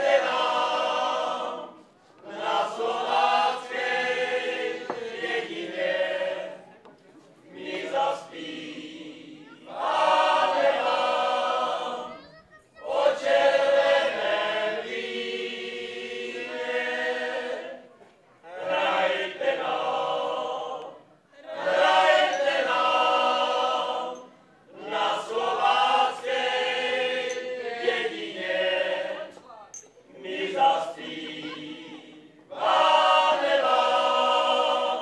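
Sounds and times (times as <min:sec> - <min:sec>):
men and women singing folk song: 0:00.0 - 0:06.6, 0:07.5 - 0:12.1, 0:12.9 - 0:29.4, 0:30.1 - 0:35.0.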